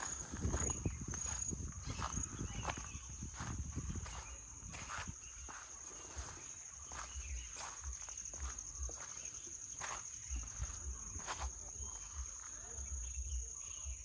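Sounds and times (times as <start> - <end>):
footsteps crunching on garden path: 0.0 - 13.2
high-pitched insect trill: 0.0 - 14.0.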